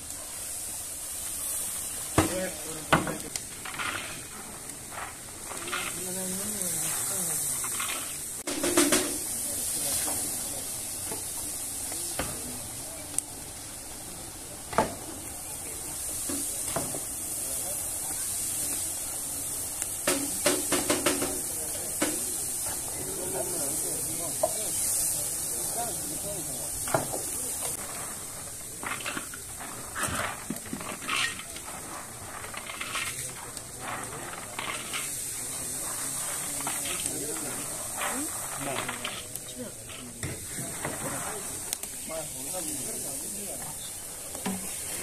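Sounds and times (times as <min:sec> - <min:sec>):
meat sizzling in woks: 0:00.0 - 0:45.0
steady hiss: 0:00.0 - 0:45.0.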